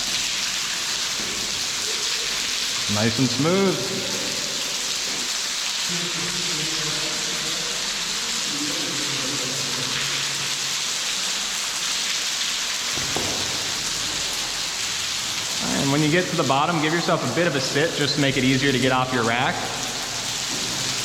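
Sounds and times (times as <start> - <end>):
rush of falling water: 0.0 - 21.0.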